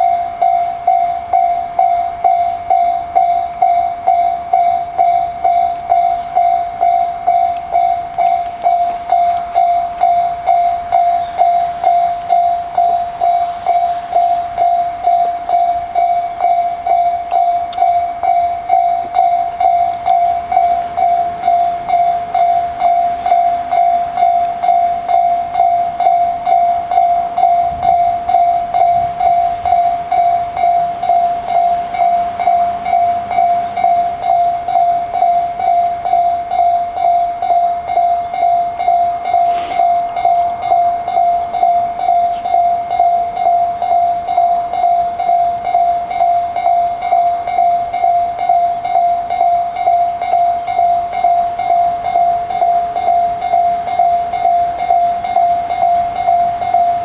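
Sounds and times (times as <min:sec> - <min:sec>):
level crossing warning bell: 0:00.0 - 0:57.0.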